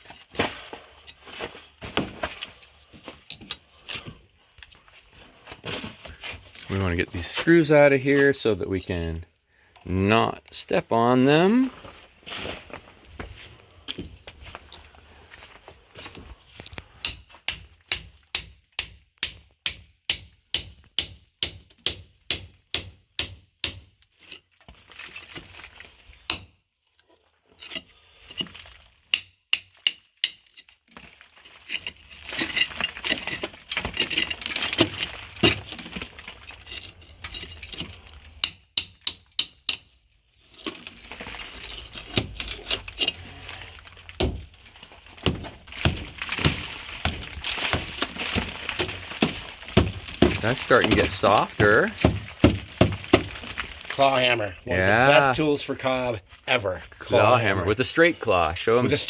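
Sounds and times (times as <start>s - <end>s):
scraping and crumbling earth: 0.0s - 18.0s, 24.1s - 29.1s, 29.7s - 38.4s, 40.0s - 59.0s.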